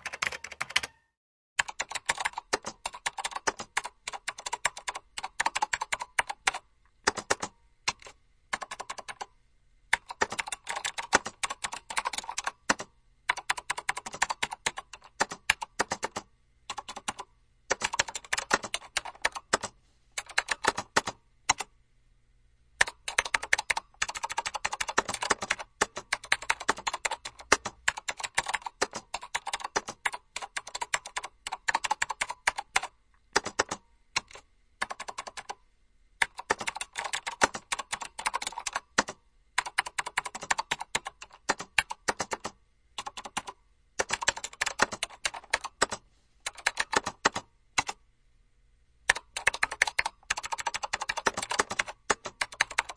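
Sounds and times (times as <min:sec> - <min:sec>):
typing on computer keyboard: 0:00.0 - 0:09.3, 0:09.9 - 0:21.7, 0:22.8 - 0:35.6, 0:36.2 - 0:48.0, 0:49.1 - 0:52.9.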